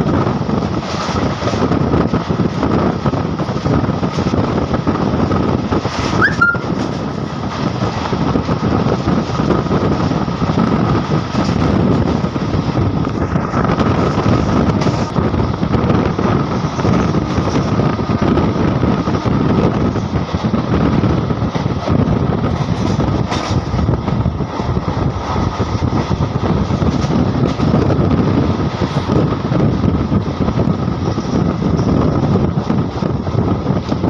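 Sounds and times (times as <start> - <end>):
train wheels rumbling on track: 0.0 - 34.0
wind on microphone: 0.0 - 34.0.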